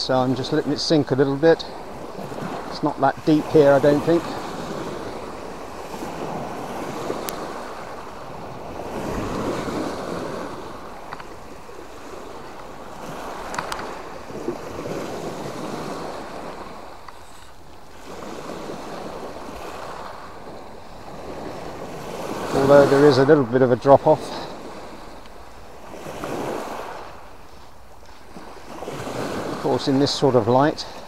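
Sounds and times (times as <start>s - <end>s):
waves washing on stony beach: 0.0s - 31.0s.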